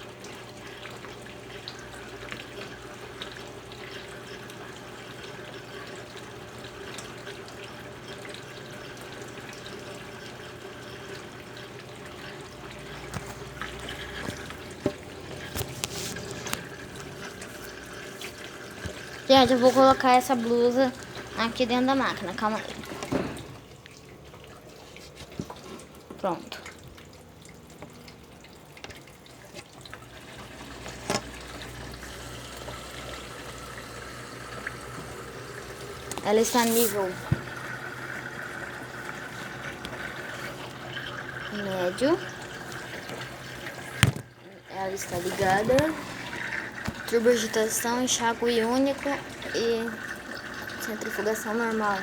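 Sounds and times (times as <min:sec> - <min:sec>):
washing machine filling with water: 0:00.0 - 0:52.0.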